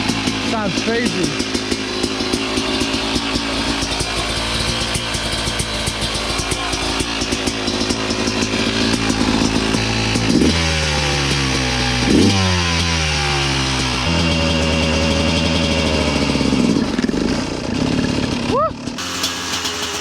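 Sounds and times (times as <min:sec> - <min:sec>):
dirt bike engine idling and revving: 0:00.0 - 0:20.0.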